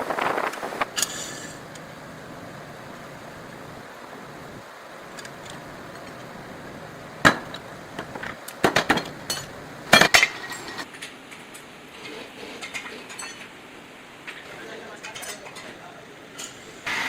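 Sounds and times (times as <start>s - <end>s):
background hiss: 0.0s - 14.9s.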